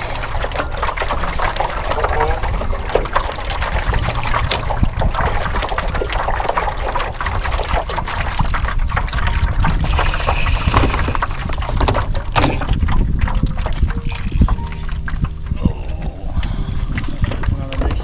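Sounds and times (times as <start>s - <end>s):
water sloshing against kayak hull: 0.0s - 18.0s.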